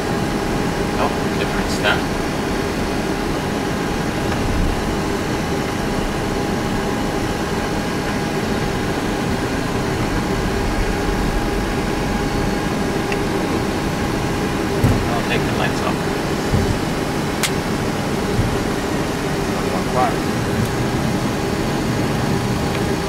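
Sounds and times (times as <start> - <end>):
cockpit air rush and engine hum: 0.0 - 23.0
constant whining tones: 0.0 - 23.0.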